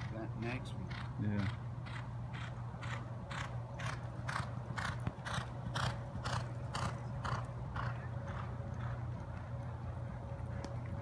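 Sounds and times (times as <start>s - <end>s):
horse hoofbeats galloping: 0.0s - 11.0s
low steady hum: 0.0s - 11.0s.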